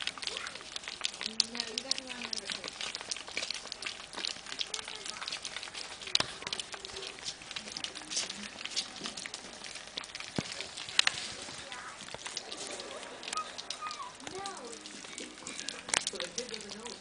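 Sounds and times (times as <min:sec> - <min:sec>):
puppies lapping food: 0:00.0 - 0:17.0.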